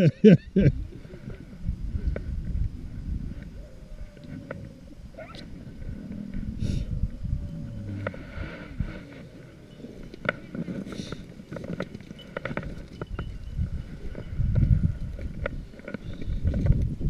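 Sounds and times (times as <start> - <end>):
low rumble against microphone: 0.3 - 11.5, 12.9 - 17.0.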